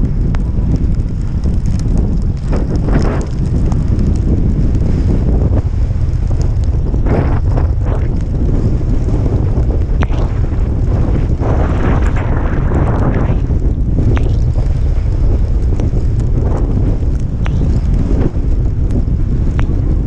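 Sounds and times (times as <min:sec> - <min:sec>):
wind buffeting the microphone: 0:00.0 - 0:20.0.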